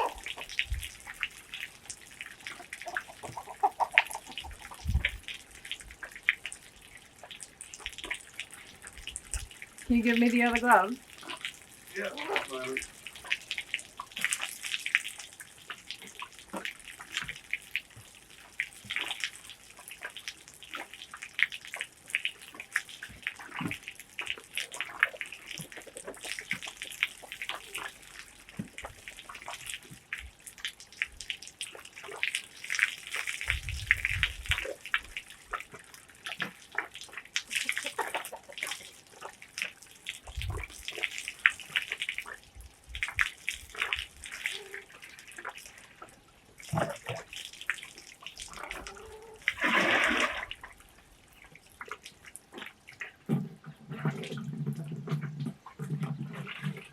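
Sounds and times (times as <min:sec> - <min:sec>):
water splashing and sloshing: 0:00.0 - 0:56.9.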